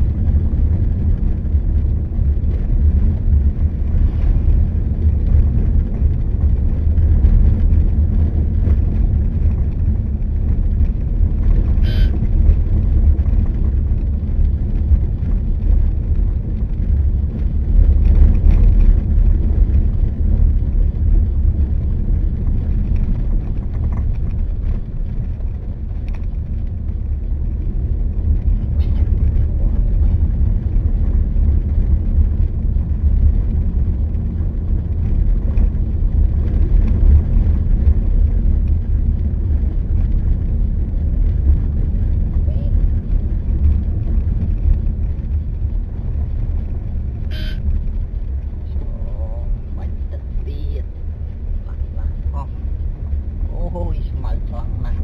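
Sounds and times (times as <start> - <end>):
vehicle rumbling along road: 0.0 - 55.0.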